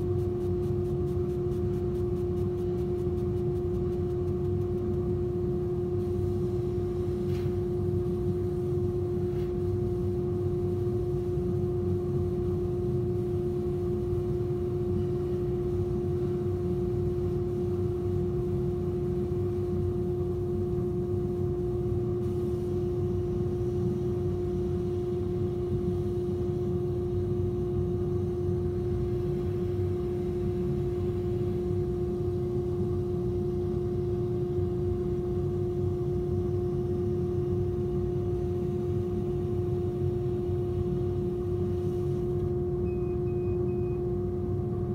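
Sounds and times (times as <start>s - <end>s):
laser cutter machine hum: 0.0s - 44.9s.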